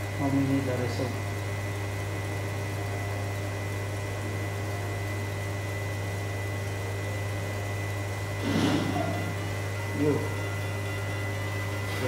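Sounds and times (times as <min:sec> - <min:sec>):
balancing machine hum: 0:00.0 - 0:12.0.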